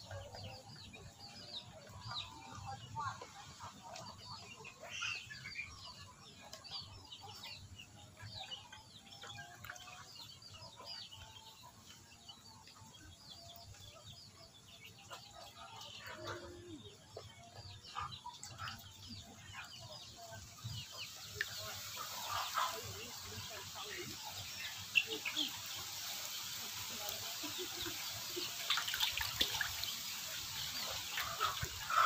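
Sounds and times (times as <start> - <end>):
chickens clucking: 0.0 - 32.0
small birds chirping: 0.0 - 32.0.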